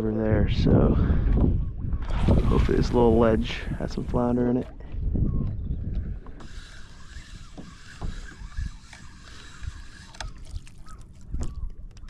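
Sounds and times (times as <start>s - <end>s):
wind buffeting microphone: 0.0s - 12.0s
water lapping against hull: 0.7s - 12.0s.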